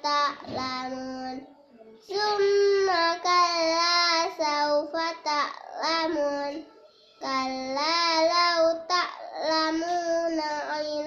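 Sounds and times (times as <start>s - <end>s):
child chanting melodic recitation: 0.0s - 11.0s.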